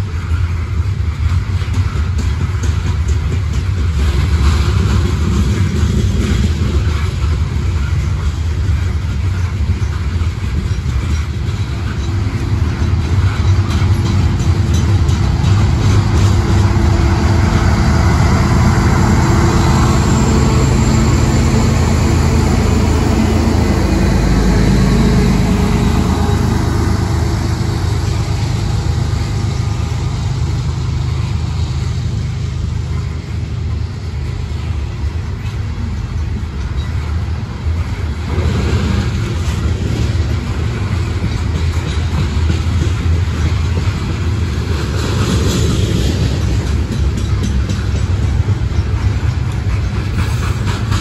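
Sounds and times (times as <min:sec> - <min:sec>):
diesel locomotive engine drone: 0:00.0 - 0:51.0
train wheels rumbling on rails: 0:00.0 - 0:51.0.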